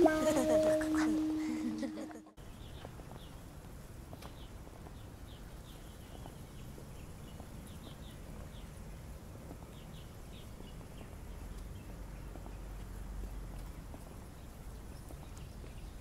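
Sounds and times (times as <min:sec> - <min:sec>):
low outdoor hum: 0:00.0 - 0:16.0
small birds chirping: 0:02.4 - 0:16.0.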